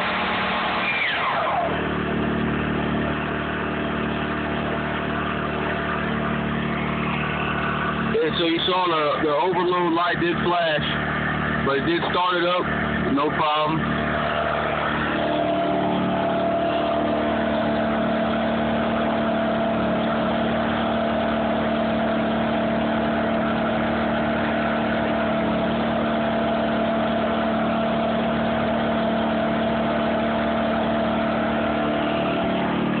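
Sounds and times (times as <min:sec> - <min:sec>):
generator engine running: 0:00.0 - 0:33.0
miter saw motor drone: 0:00.0 - 0:33.0.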